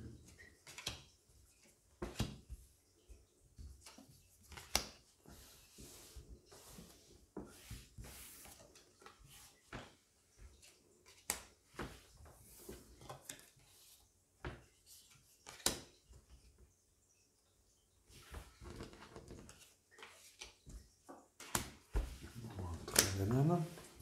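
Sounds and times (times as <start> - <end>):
playing cards rustling: 0.3 - 3.1, 3.7 - 16.0, 18.2 - 20.7, 21.4 - 24.0.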